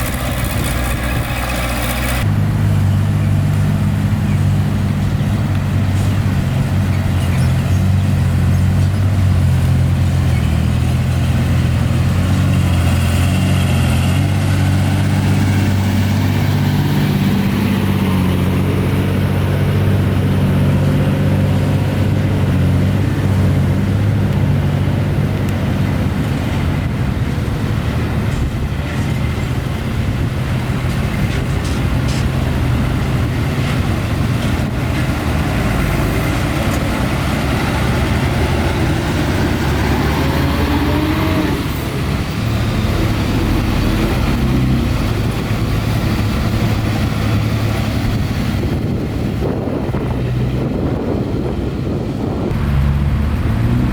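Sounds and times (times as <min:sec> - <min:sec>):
heavy diesel engines humming: 0:00.0 - 0:53.9.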